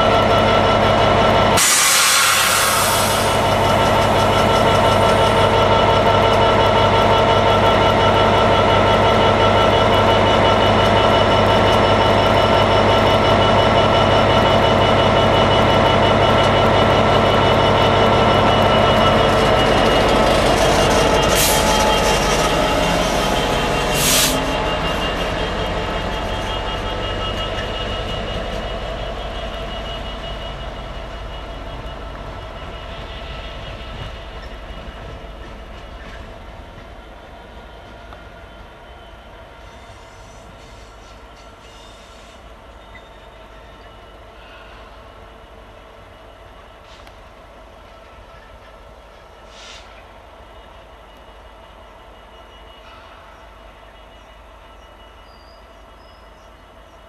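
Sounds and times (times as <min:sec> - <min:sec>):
diesel locomotive engine hum: 0:00.0 - 0:57.0.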